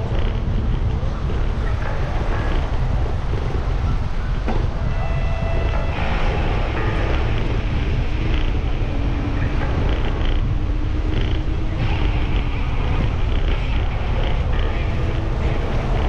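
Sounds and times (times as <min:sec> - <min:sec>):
faint outdoor ambience: 0:00.0 - 0:16.0
wind rumble on microphone: 0:00.0 - 0:16.0.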